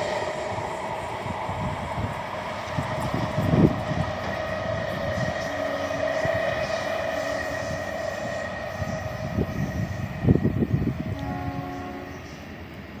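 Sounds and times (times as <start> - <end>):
passenger train running: 0.0 - 13.0.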